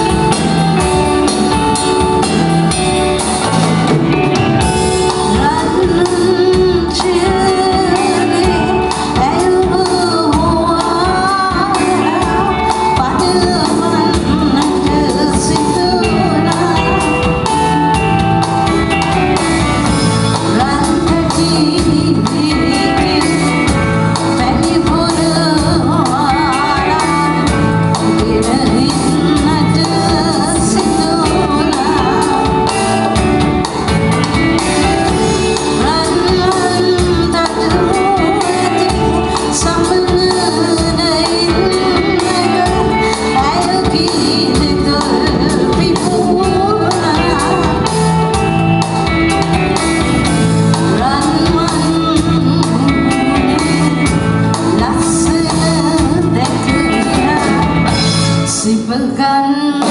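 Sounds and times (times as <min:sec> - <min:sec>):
electric bass: 0:00.0 - 0:58.9
drum kit: 0:00.0 - 0:59.9
woman singing: 0:00.0 - 0:59.9.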